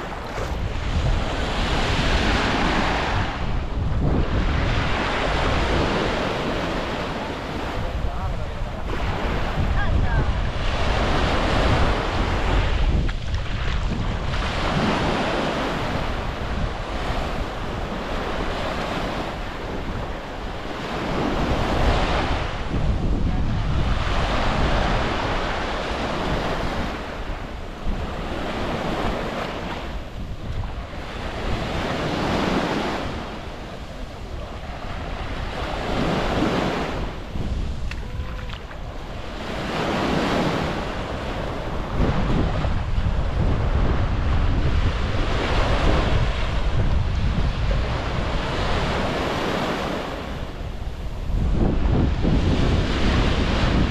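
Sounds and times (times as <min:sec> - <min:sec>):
sea waves breaking on beach: 0:00.0 - 0:53.9
wind buffeting microphone: 0:00.0 - 0:53.9.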